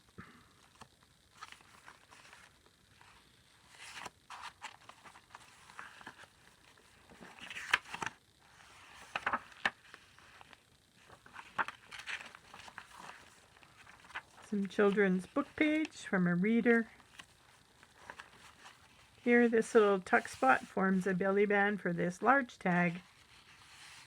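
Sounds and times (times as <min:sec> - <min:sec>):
paper pages rustling and turning: 0:00.6 - 0:20.8, 0:22.9 - 0:24.0.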